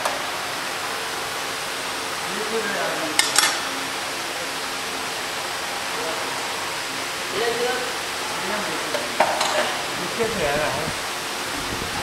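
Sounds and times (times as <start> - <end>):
workshop air noise: 0.0 - 12.0.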